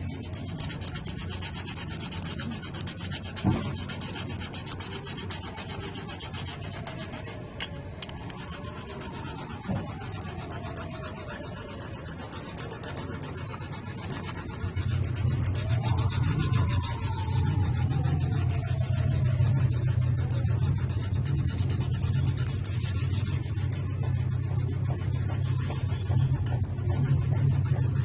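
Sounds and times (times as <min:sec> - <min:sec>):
sanding strokes: 0:00.0 - 0:28.0.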